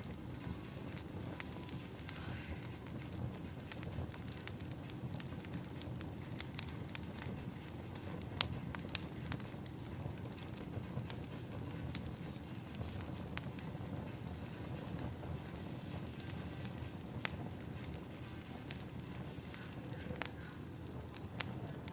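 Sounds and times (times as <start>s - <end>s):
fire pops and snaps: 0.0s - 21.9s
wood fire crackling: 0.0s - 21.9s.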